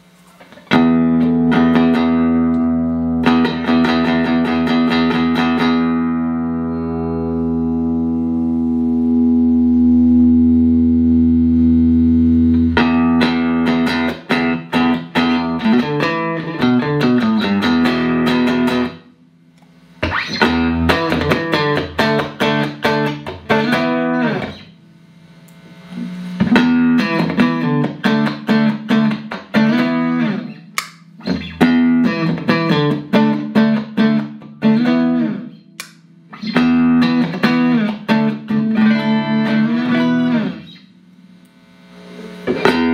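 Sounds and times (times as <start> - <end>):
clean electric guitar: 0.0 - 42.9.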